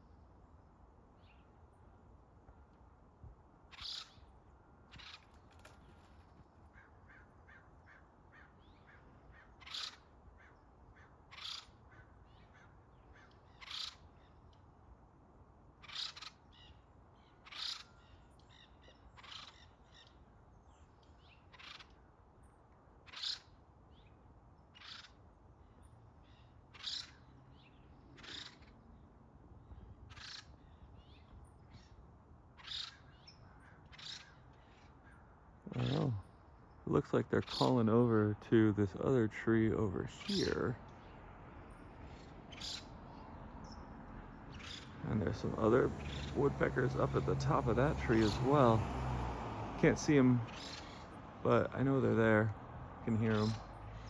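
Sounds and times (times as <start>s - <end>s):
woodpeckers calling: 3.7s - 14.7s, 15.7s - 22.1s, 23.0s - 29.0s, 29.6s - 38.4s, 39.8s - 48.9s, 49.9s - 54.0s.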